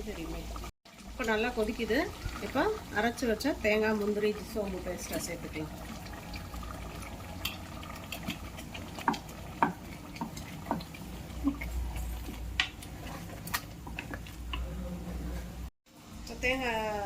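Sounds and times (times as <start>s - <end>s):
gravy boiling in a pot: 0.0s - 17.0s.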